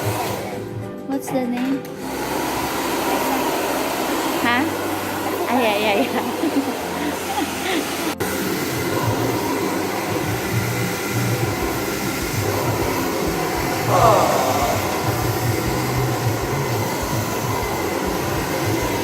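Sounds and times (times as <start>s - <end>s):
hair dryer blowing: 0.0s - 0.9s, 1.6s - 19.0s.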